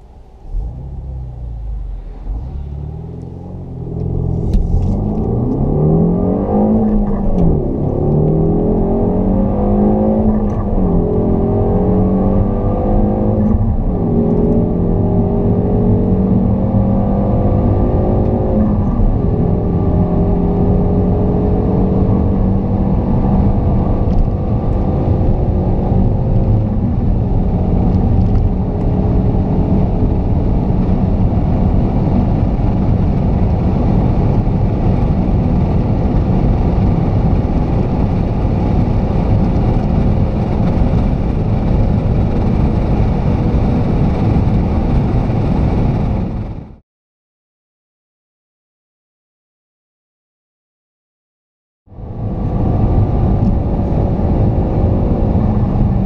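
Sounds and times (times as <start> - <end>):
car engine accelerating: 0.0 - 46.8, 51.9 - 56.0.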